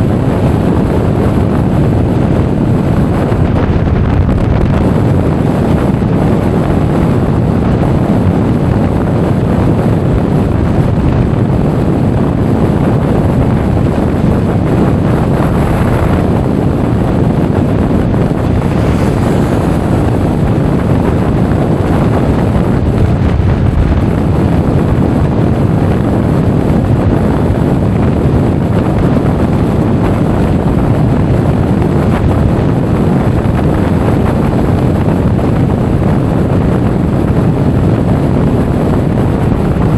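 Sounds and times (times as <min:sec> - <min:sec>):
scooter ride rumble: 0:00.0 - 0:39.9
wind buffeting microphone: 0:00.0 - 0:39.9.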